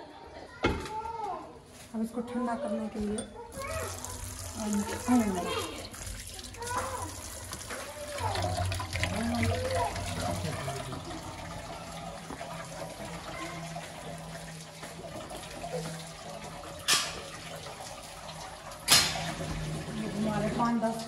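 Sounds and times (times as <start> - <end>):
tap water running into colander: 3.5 - 21.0.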